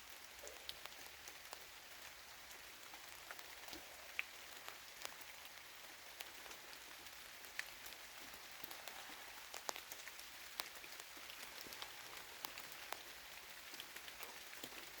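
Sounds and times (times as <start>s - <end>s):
light rain on leaves: 0.0s - 15.0s.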